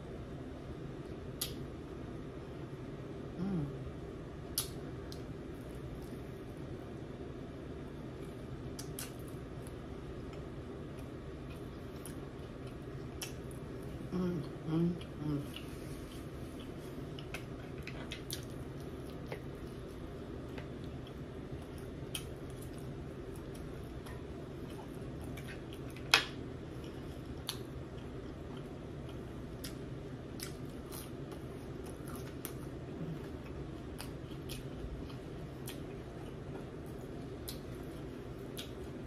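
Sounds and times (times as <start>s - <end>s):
steady low hum: 0.0s - 39.0s
soft chewing: 4.4s - 7.0s, 7.9s - 39.0s.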